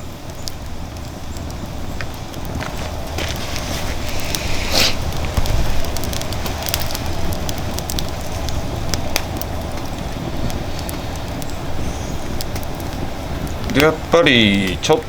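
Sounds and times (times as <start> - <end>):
fire flame rushing: 0.0 - 15.0
firewood crackling and popping: 0.0 - 15.0.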